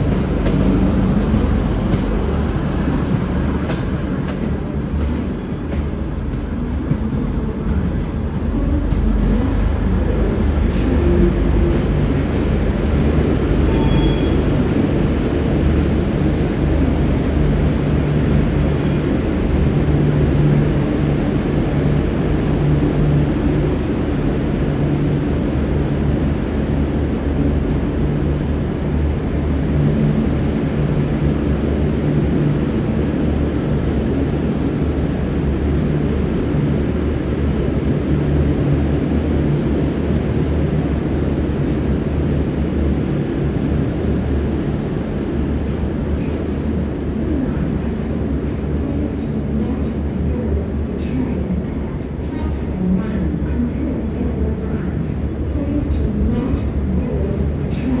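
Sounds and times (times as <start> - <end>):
diesel train engines running: 0.0 - 58.0.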